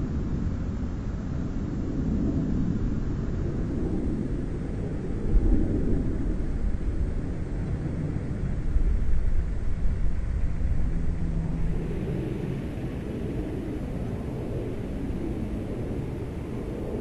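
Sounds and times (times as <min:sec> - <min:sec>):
aircraft in flight rumbling: 0:00.0 - 0:17.0.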